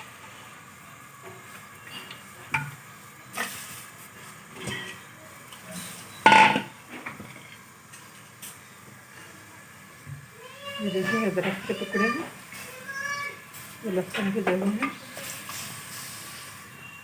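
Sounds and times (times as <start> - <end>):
pots and utensils clinking: 1.2 - 9.4, 11.0 - 17.0.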